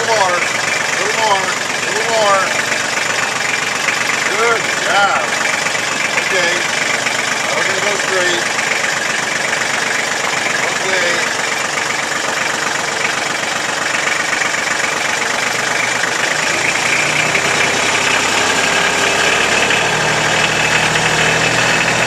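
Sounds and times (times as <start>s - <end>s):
deeper engine note: 0.0s - 22.0s
tractor diesel engine idling: 0.0s - 22.0s.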